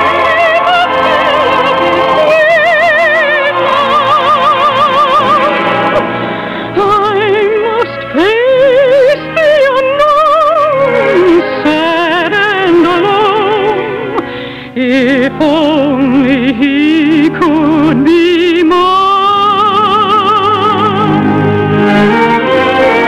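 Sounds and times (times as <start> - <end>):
dramatic orchestral music: 0.0 - 18.8, 19.5 - 23.0.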